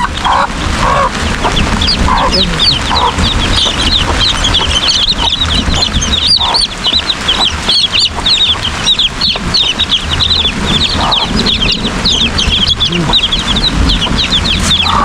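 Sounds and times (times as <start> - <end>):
chicks peeping: 0.0 - 15.0
heavy rain: 0.0 - 15.0
hen clucking: 0.0 - 15.0.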